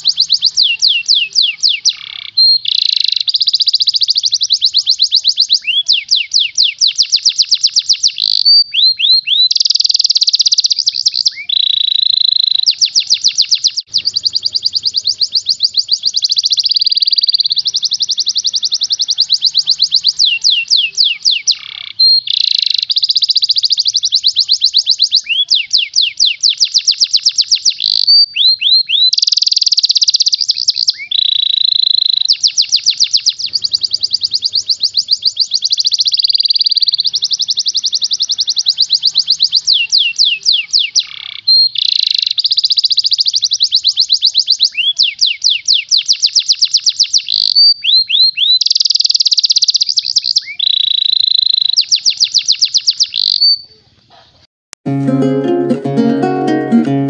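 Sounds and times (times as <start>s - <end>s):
canary singing trills: 0.0s - 54.5s.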